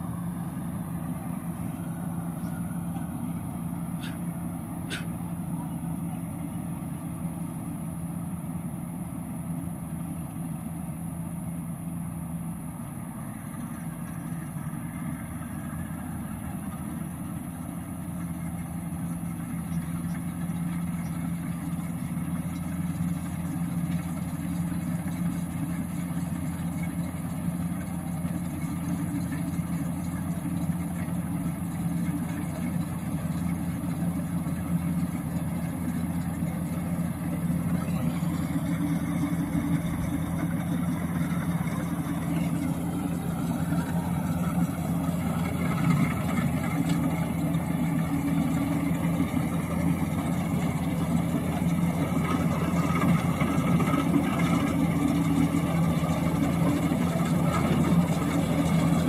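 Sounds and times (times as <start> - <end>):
combine harvester engine humming: 0.0 - 59.0.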